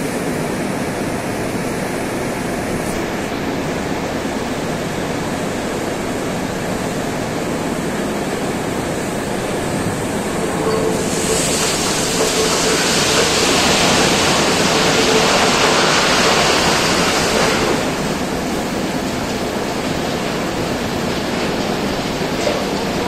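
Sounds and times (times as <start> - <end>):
coal pouring into rail wagon: 2.8 - 23.0.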